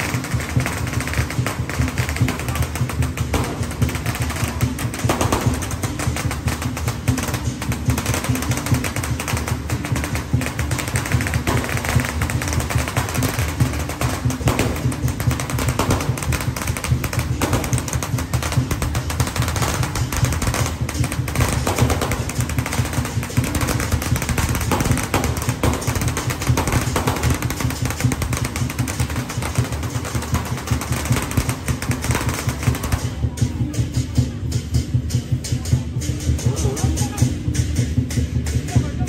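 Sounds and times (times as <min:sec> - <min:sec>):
firecrackers crackling: 0:00.0 - 0:39.0
music: 0:00.0 - 0:39.0.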